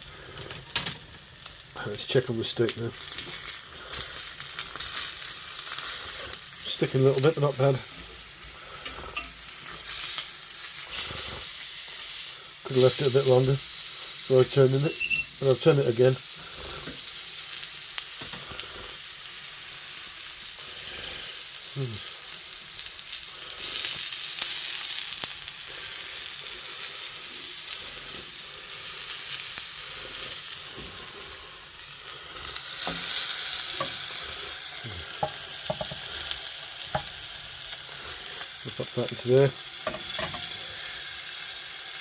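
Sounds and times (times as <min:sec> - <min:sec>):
steak sizzling in a frying pan: 0:00.0 - 0:42.0.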